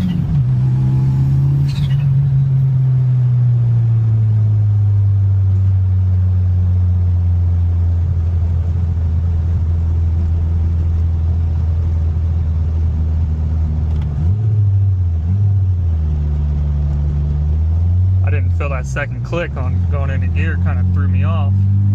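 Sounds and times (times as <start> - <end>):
car engine running: 0.0 - 21.9.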